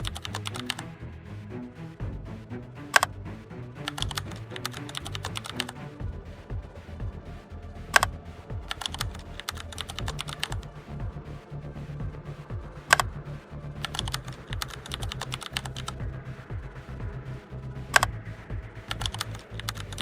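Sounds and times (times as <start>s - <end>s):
electronic music with beat: 0.0s - 20.0s.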